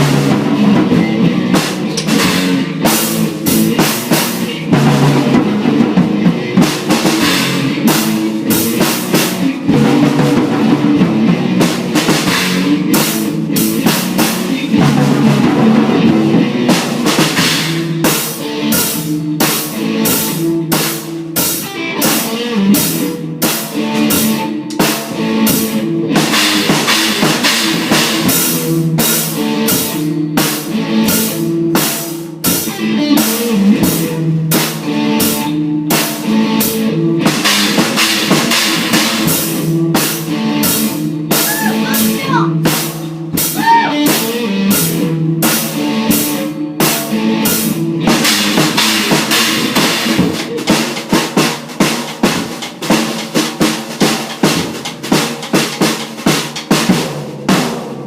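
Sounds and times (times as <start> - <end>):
drum kit beats with cymbals: 0.0 - 58.0
rock guitar riff: 0.0 - 58.0.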